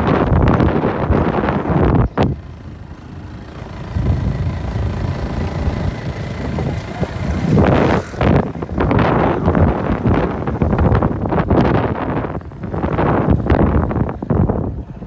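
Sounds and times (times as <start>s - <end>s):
low engine hum: 0.0s - 15.0s
wind buffeting microphone: 0.0s - 15.0s.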